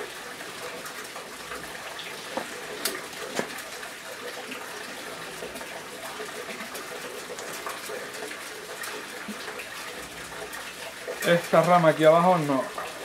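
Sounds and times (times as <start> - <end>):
running splashing water: 0.0 - 13.0.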